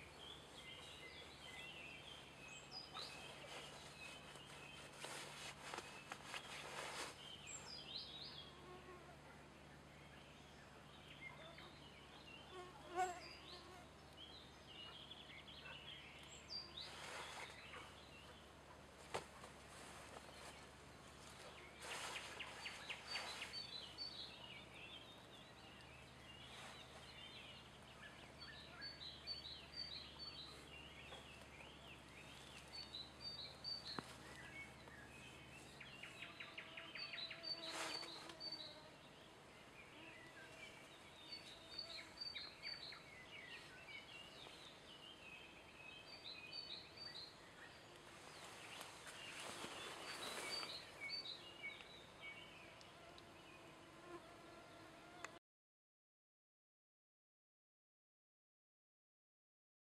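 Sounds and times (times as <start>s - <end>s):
songbirds twittering: 0.0s - 55.3s.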